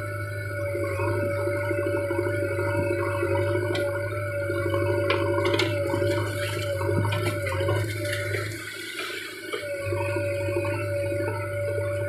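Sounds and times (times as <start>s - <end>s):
bucket working through wet mud: 0.0s - 12.0s
high hydraulic whine: 0.0s - 12.0s.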